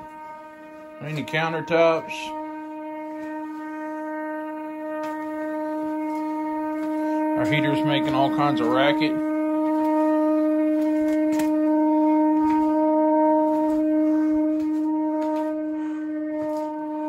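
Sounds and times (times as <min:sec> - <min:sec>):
space heater horn-like drone: 0:00.0 - 0:17.0.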